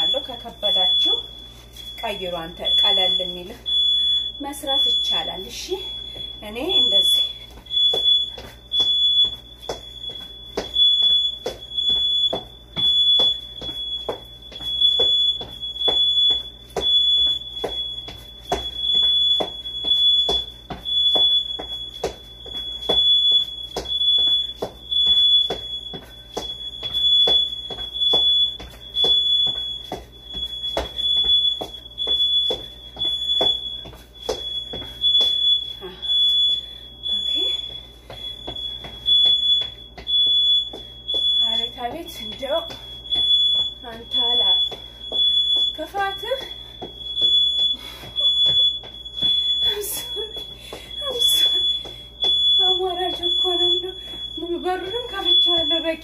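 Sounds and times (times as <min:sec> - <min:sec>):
smoke alarm beeping: 0:00.0 - 0:56.0
regular thumps: 0:06.0 - 0:55.9.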